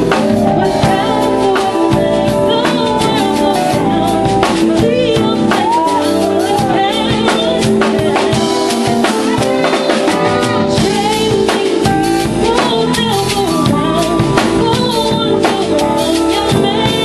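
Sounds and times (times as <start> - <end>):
drum kit steady beat: 0.0 - 17.0
soul band playing: 0.0 - 17.0.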